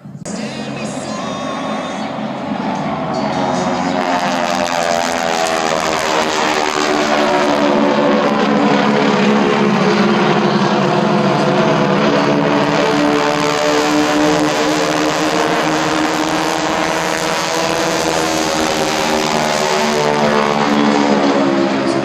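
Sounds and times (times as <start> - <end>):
propeller plane engine running: 0.0 - 22.0.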